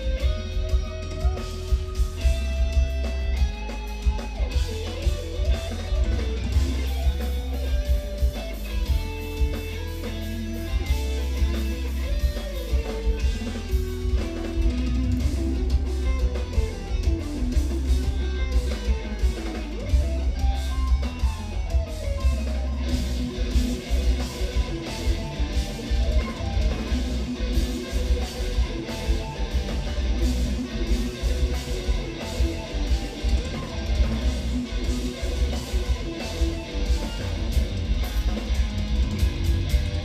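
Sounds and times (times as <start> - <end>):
fast electric guitar runs: 0.0 - 40.0.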